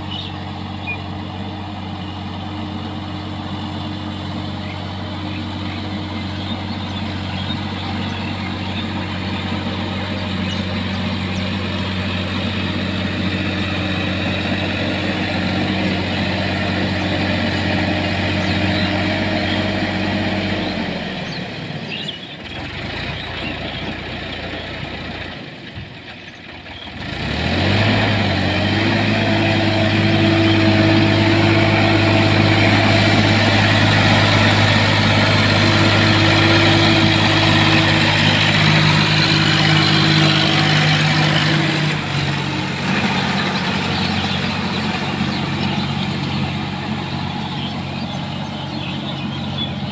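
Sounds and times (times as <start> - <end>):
tractor diesel engine idling: 0.0 - 49.9.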